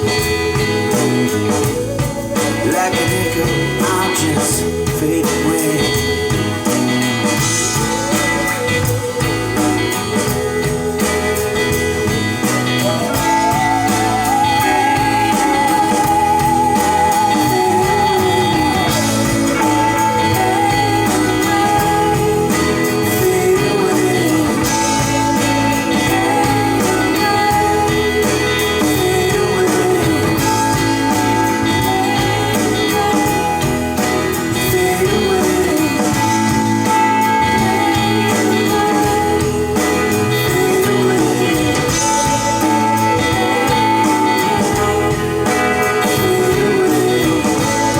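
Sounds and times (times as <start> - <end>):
guitar: 0.0 - 47.9
song over loudspeakers: 0.0 - 47.9
wavering held lead melody: 0.0 - 47.9.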